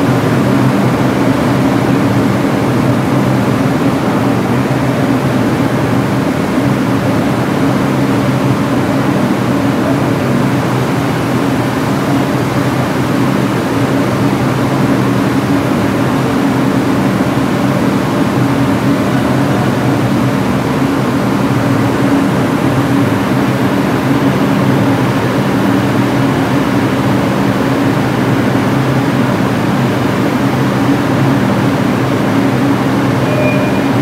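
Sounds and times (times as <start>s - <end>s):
subway car hum: 0.0s - 34.0s.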